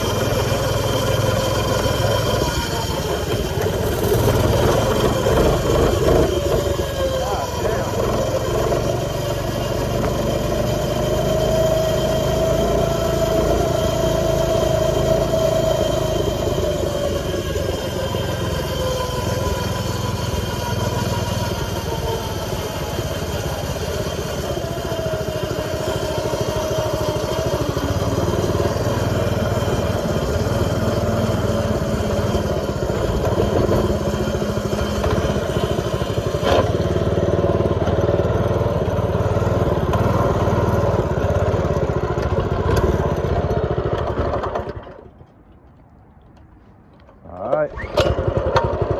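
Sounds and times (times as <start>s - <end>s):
small two-stroke engine running: 0.0s - 45.4s, 47.5s - 48.9s.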